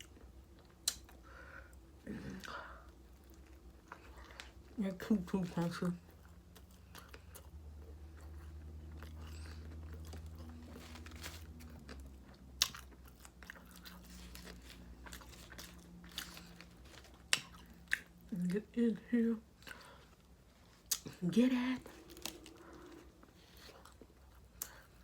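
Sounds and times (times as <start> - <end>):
chewing food with crunches: 0.0 - 18.8, 19.5 - 21.2, 21.8 - 25.0
steady low hum: 0.0 - 25.0.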